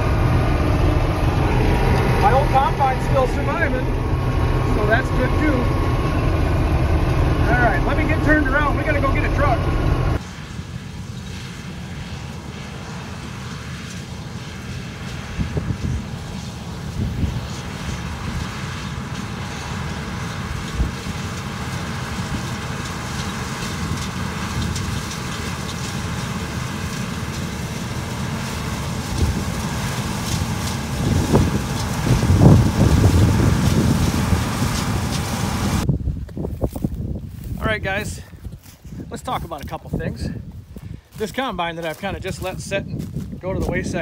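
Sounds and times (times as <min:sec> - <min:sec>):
wind buffeting microphone: 0:00.0 - 0:10.2, 0:15.2 - 0:19.4, 0:20.2 - 0:26.6, 0:27.9 - 0:44.0
combine harvester rumbling: 0:00.0 - 0:44.0.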